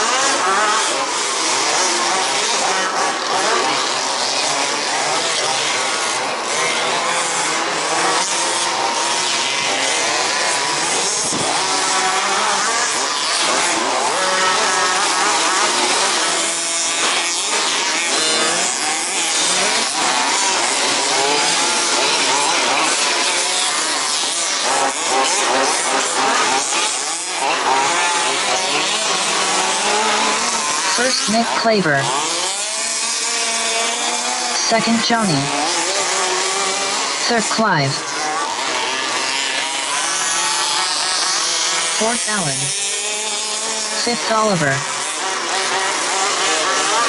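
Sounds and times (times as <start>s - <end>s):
rc car engines buzzing and revving: 0.0s - 47.0s.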